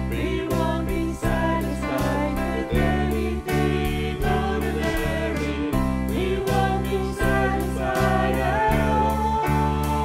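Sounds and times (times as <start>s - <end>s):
band playing worship song: 0.0s - 10.0s.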